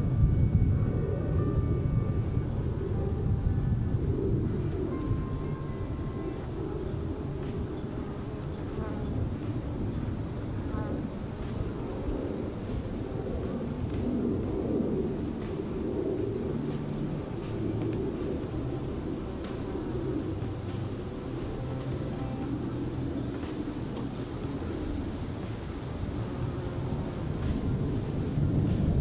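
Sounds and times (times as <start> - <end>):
low rumbling noise: 0.0 - 29.0.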